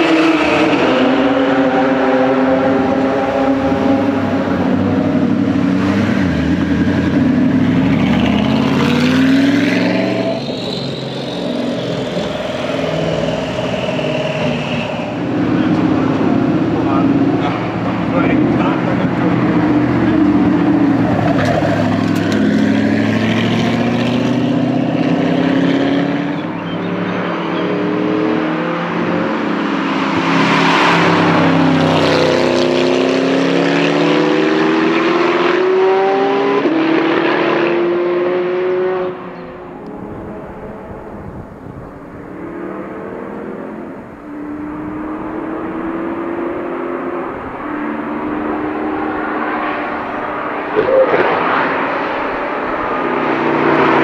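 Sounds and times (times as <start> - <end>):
car engine accelerating through gears: 0.0 - 54.0.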